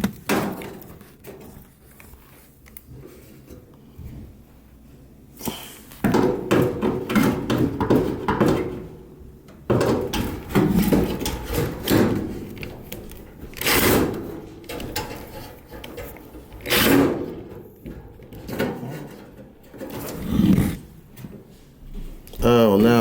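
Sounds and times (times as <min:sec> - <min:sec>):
clattering of parts being handled: 0:00.0 - 0:04.4, 0:05.4 - 0:22.4.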